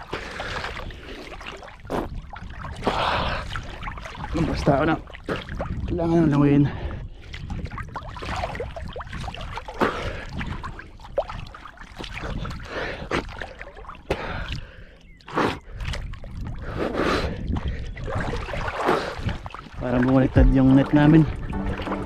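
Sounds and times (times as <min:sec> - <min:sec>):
water splashing from swimming: 0:00.0 - 0:22.0.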